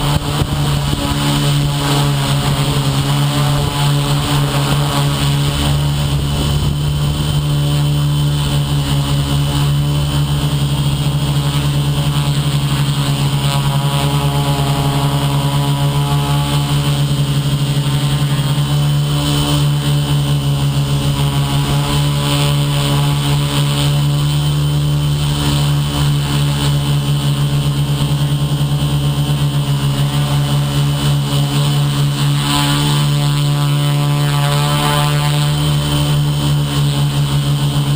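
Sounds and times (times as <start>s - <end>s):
model aircraft motor buzzing: 0.0s - 37.9s.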